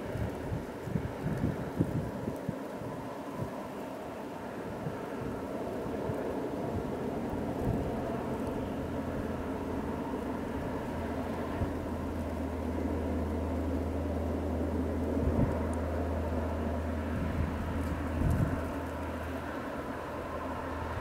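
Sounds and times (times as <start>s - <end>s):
wind buffets: 0.0s - 21.0s
wind rumbling on microphone: 0.0s - 21.0s.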